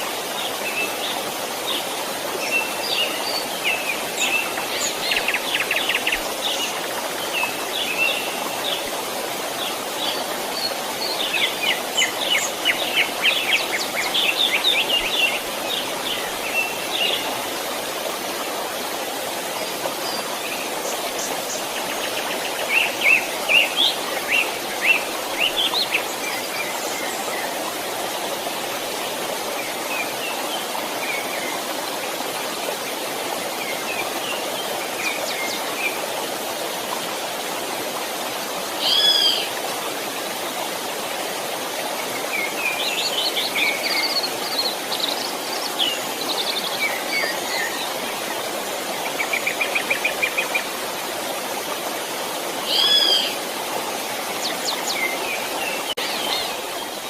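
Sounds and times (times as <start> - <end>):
creek running: 0.0 - 57.0.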